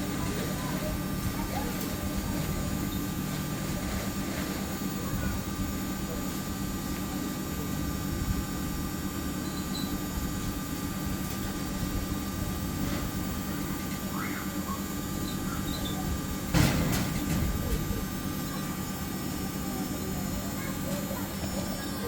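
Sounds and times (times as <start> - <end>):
washing machine drum spinning: 0.0 - 22.0.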